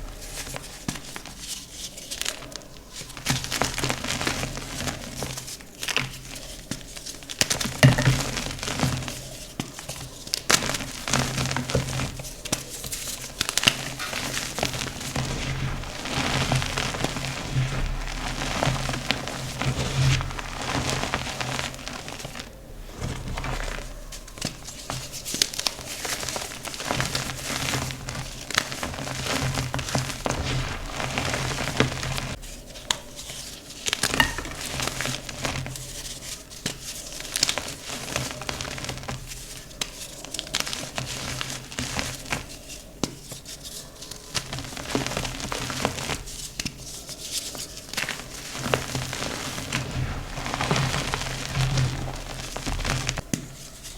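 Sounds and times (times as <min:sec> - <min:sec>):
chalk crunching by hand: 0:00.0 - 0:53.9.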